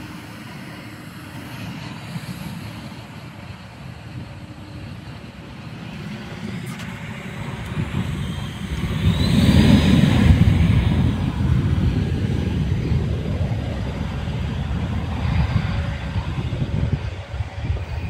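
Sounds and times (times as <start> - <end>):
jet engines spooling up: 0.0 - 18.0.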